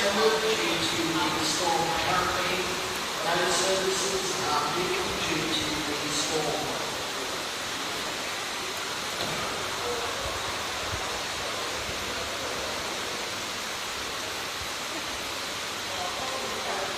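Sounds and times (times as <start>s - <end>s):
floodwater rushing: 0.0s - 16.9s.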